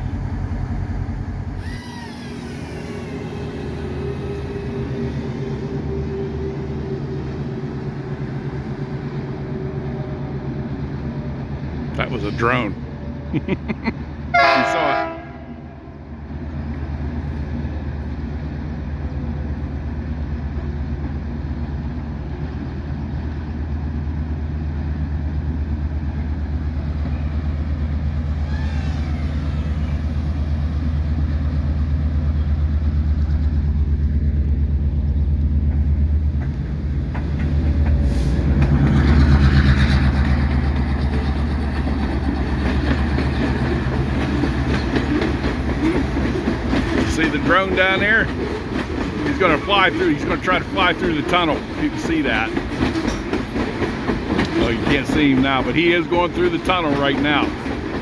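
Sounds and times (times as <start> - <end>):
diesel locomotive engine drone: 0.0 - 58.0
train rattle: 0.0 - 58.0.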